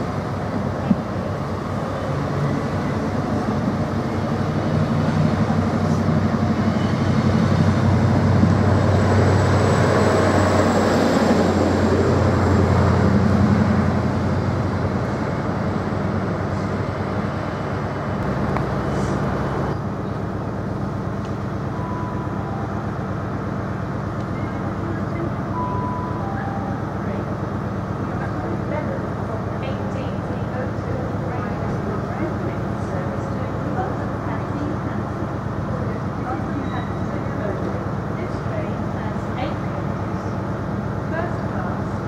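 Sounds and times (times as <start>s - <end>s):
track noise: 0.0s - 42.0s
train engines droning: 0.0s - 42.0s.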